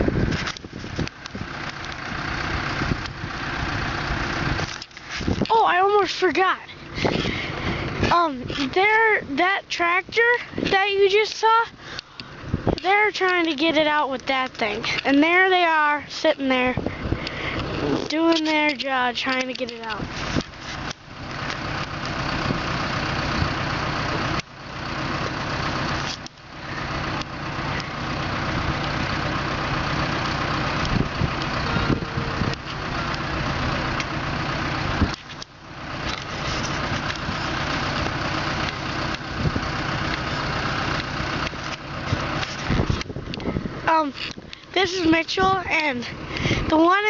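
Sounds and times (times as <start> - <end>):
vehicle engines running: 0.0 - 47.0.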